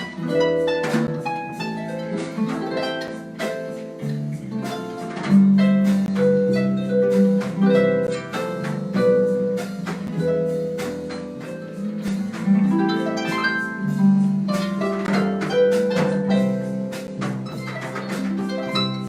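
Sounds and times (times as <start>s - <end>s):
harp plucked notes: 0.0s - 19.0s
jazz ensemble playing: 0.0s - 19.0s.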